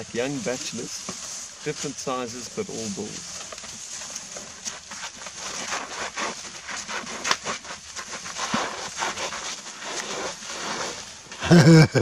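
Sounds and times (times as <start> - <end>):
elephants scuffing on dirt and grass: 0.0 - 11.8.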